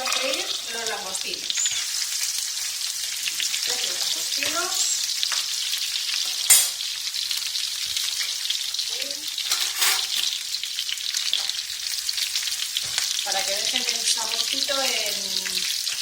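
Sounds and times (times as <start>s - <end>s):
prawns sizzling in hot oil: 0.0s - 16.0s.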